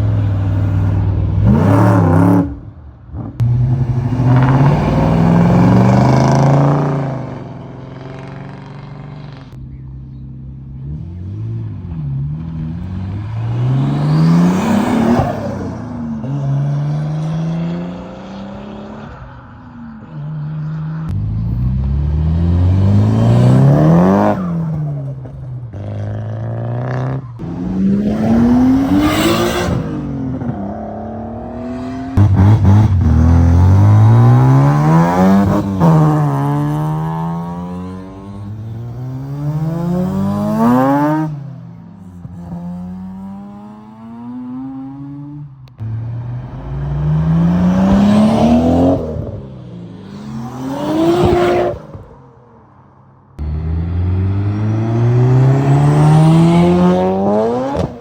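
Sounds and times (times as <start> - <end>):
car engines revving hard: 0.0 - 52.2, 53.3 - 58.0.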